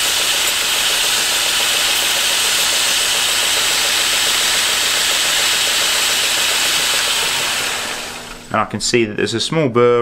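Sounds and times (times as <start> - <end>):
belt grinder grinding steel: 0.0 - 8.5.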